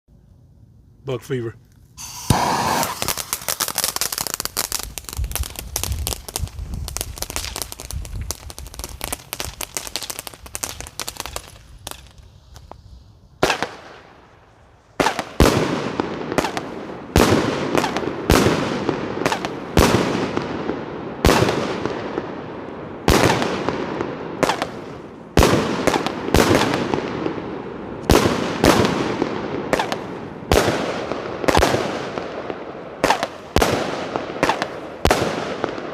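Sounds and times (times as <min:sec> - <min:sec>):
firework crackling: 0:01.8 - 0:35.9
firework bangs: 0:02.0 - 0:35.9.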